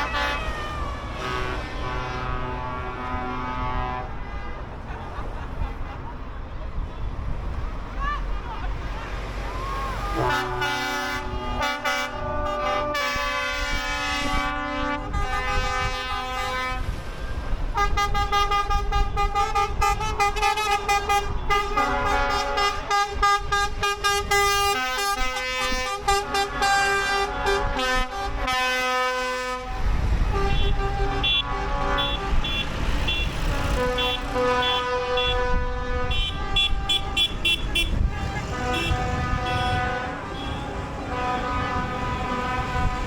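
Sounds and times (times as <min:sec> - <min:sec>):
vehicle horns tooting: 0:00.0 - 0:05.8, 0:09.0 - 0:43.0
vehicle engine noise: 0:00.0 - 0:28.6, 0:29.5 - 0:43.0
heavy vehicle engine rumble: 0:00.0 - 0:43.0.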